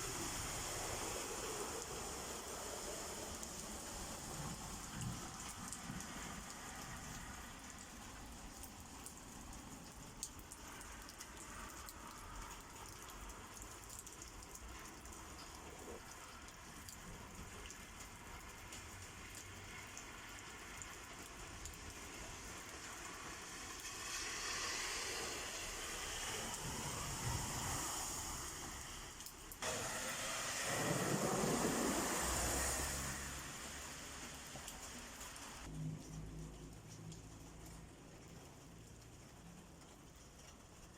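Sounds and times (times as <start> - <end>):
rain drops ticking on surfaces: 0.0 - 40.9.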